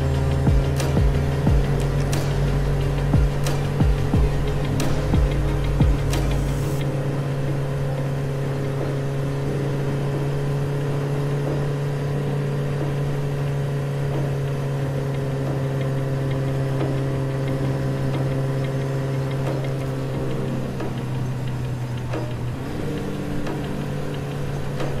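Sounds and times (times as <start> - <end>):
scooter engine humming: 0.0 - 25.0.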